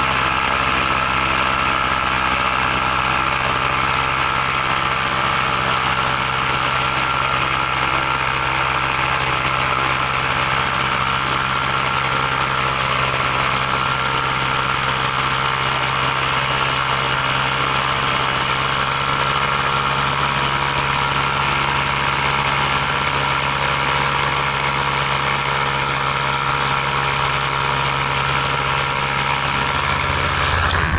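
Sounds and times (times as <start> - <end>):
aircraft motors and propellers: 0.0 - 30.9.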